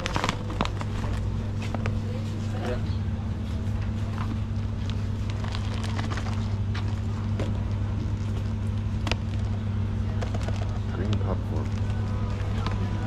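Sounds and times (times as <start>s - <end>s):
plastic tubs clicking and crackling: 0.0s - 2.0s, 4.1s - 13.0s
low machine hum: 0.0s - 13.0s.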